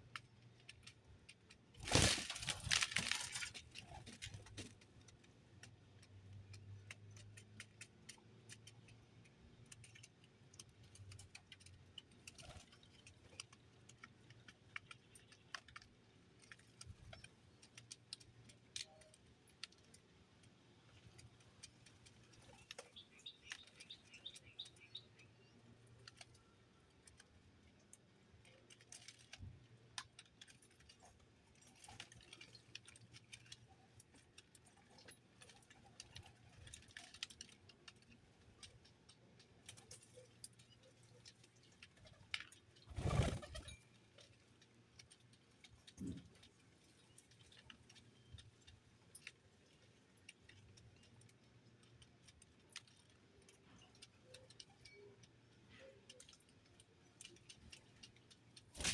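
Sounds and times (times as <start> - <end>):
small birds tapping and pecking: 0.0 - 58.9.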